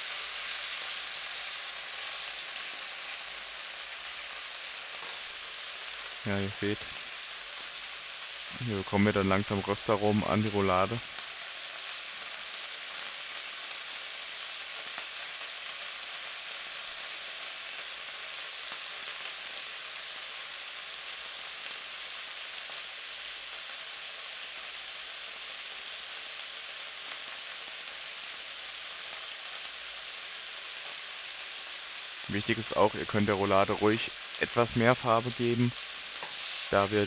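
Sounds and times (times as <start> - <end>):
meat sizzling in frying pan: 0.0 - 37.0.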